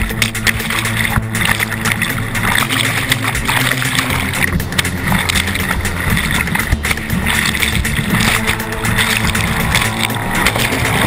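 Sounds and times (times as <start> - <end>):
white water splashing: 0.0 - 11.0.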